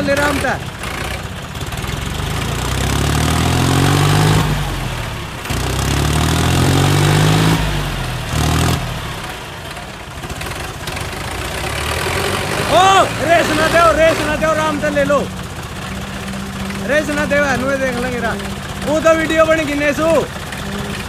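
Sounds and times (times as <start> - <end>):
tractor diesel engines revving: 0.0 - 21.0.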